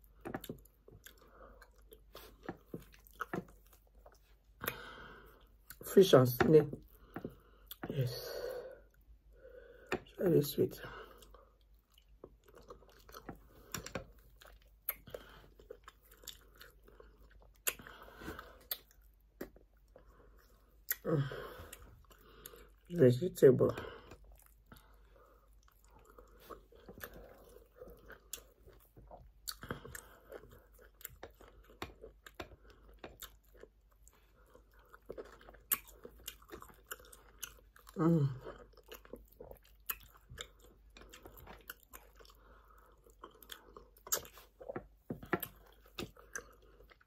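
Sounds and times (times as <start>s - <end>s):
wet chewing and smacking: 0.0s - 10.2s, 10.8s - 47.0s.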